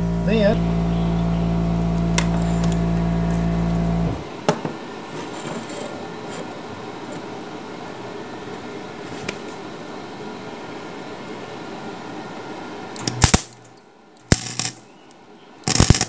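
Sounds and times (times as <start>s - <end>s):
welder transformer humming: 0.0s - 16.0s.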